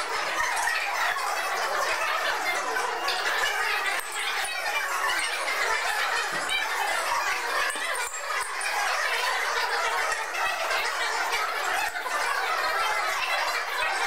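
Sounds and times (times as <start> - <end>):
murmur of onlookers: 0.0 - 14.0.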